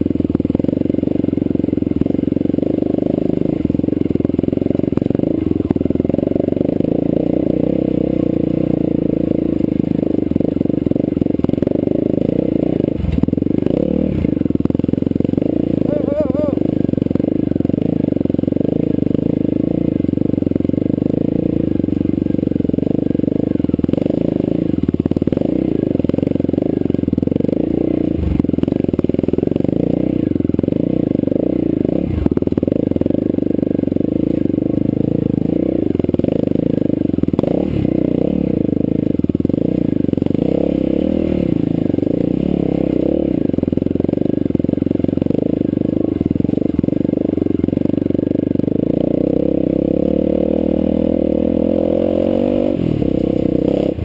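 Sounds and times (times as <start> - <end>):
motorcycle engine under load: 0.0 - 54.0.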